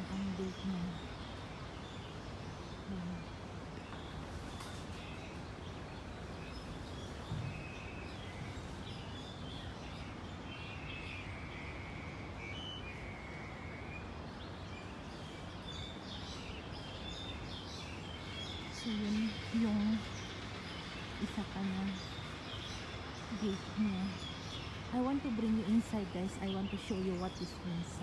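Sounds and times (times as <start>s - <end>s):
outdoor background noise: 0.0s - 28.0s
small birds chirping: 0.0s - 28.0s.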